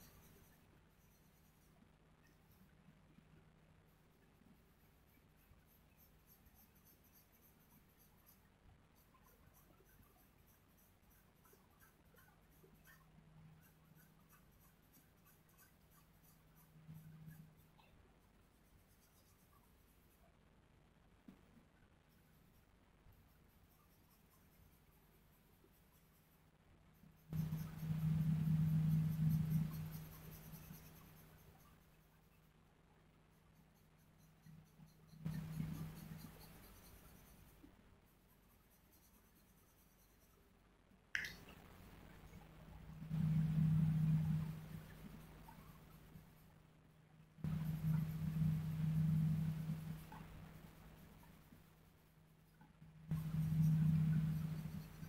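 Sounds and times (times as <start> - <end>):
pencil scratching on paper: 0.0 - 2.7, 3.9 - 20.3, 22.1 - 32.6, 33.2 - 40.5, 42.9 - 46.6, 47.4 - 55.0
low hum: 0.0 - 55.0.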